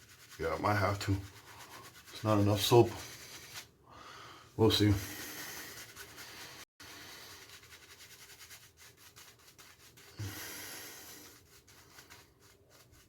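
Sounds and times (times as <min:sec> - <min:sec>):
shaving brush swishing lather: 0:00.0 - 0:03.8, 0:04.6 - 0:13.0.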